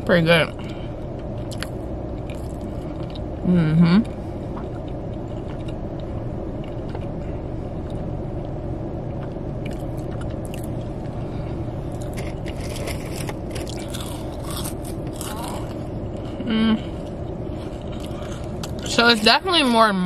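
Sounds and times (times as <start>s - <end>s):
low rumble: 0.0s - 20.0s
person chewing crunchy food: 0.7s - 3.4s, 4.0s - 18.9s.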